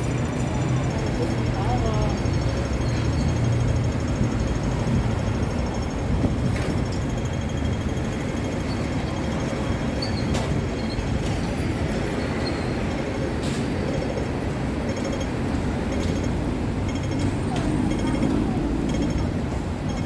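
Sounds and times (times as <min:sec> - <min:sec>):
vehicle rumble and hiss: 0:00.0 - 0:20.0.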